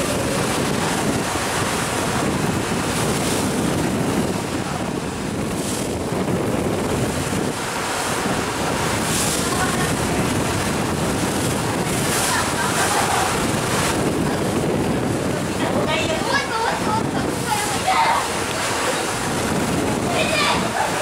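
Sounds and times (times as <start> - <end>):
sea water rushing: 0.0 - 21.0
wind buffeting microphone: 0.0 - 21.0.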